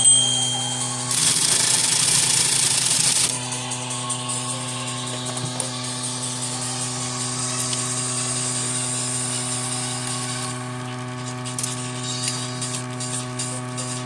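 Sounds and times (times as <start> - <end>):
typewriter motor humming: 0.0 - 3.5, 5.1 - 14.0.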